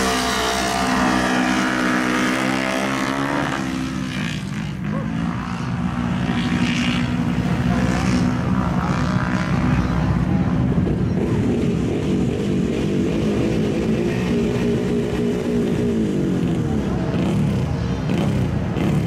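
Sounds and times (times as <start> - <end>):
racing engine running hard: 0.0 - 19.0.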